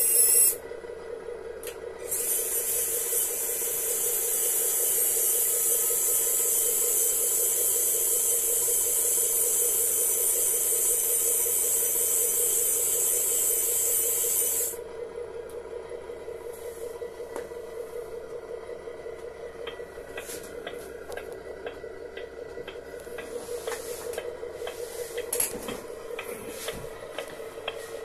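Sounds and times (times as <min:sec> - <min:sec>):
constant low hum: 0:00.0 - 0:28.0.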